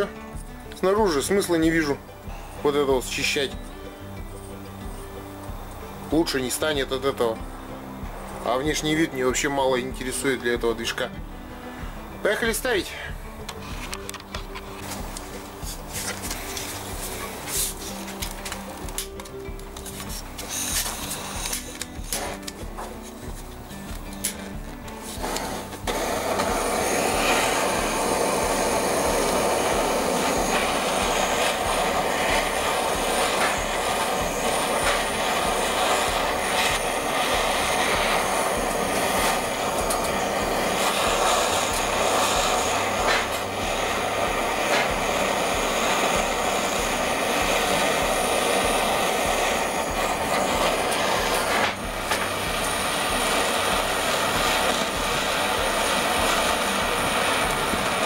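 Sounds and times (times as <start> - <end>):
gas torch hissing: 0.0 - 58.0.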